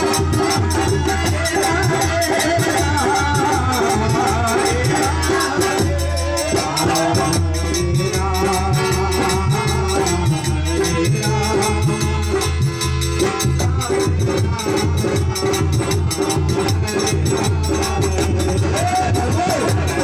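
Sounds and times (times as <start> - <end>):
barrel drum rhythm: 0.0 - 20.0
high jingling percussion: 0.0 - 20.0.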